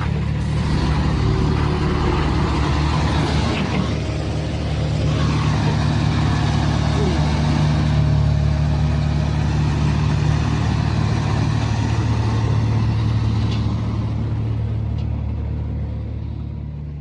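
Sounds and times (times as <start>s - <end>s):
heavy vehicle engine droning: 0.0s - 17.0s.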